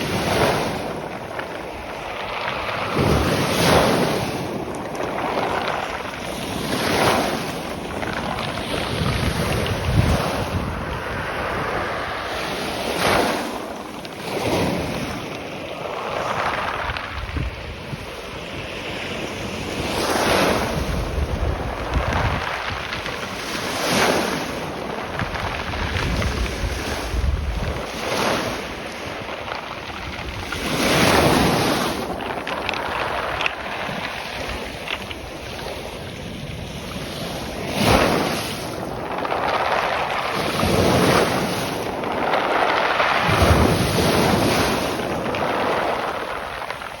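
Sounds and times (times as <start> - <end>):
waves on pebble beach: 0.0 - 47.0
wind buffeting microphone: 0.0 - 47.0.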